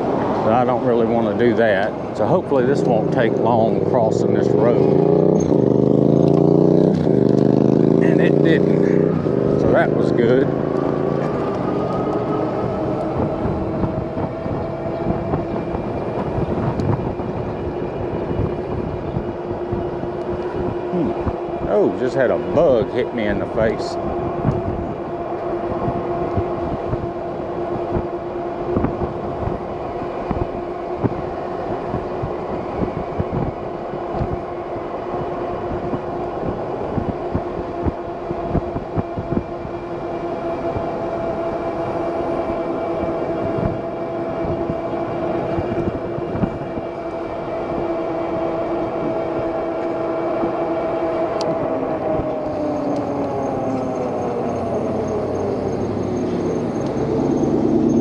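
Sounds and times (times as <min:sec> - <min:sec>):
wind on microphone: 0:08.6 - 0:58.0.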